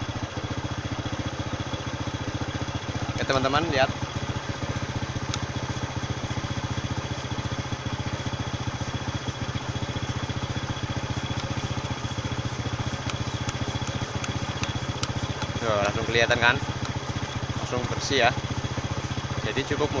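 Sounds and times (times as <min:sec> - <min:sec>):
motorcycle engine running steadily: 0:00.0 - 0:20.0.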